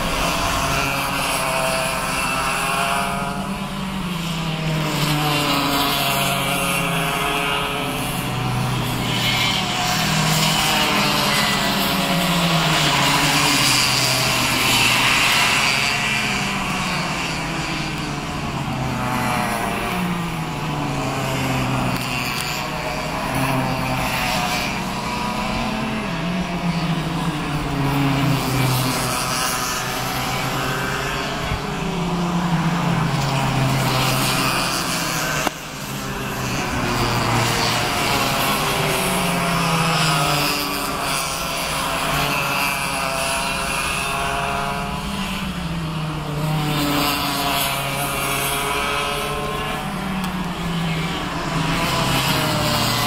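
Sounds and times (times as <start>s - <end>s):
kart engines buzzing: 0.0s - 53.0s.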